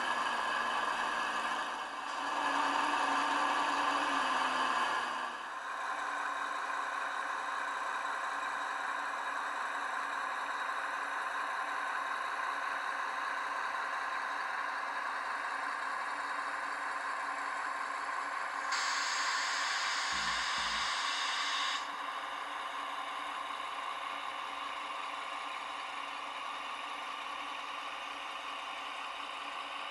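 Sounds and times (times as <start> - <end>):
model locomotive diesel engine sound: 0.0 - 29.9.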